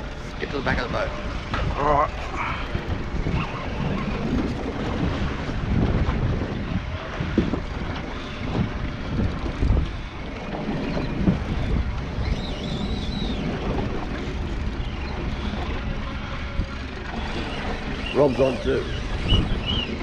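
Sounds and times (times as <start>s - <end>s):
sea washing against hull: 0.0s - 20.0s
wind buffeting microphone: 0.0s - 20.0s.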